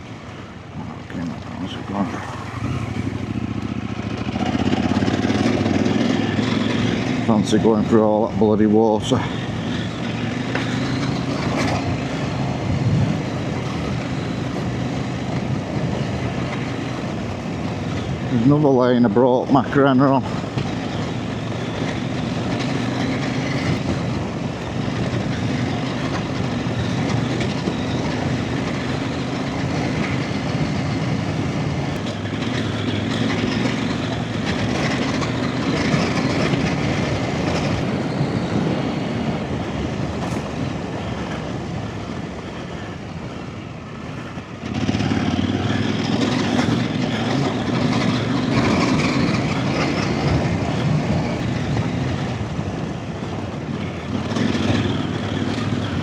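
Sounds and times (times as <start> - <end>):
trail motorcycle engine running: 0.0 - 56.0.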